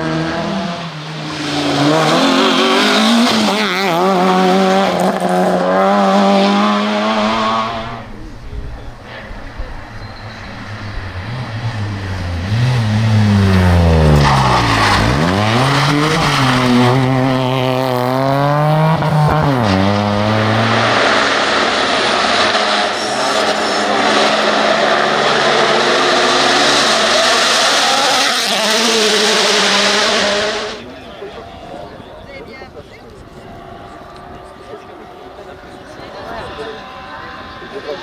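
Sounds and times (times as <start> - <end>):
car engine and tyres passing: 0.0 - 38.0
rally car engine revving: 0.0 - 38.0.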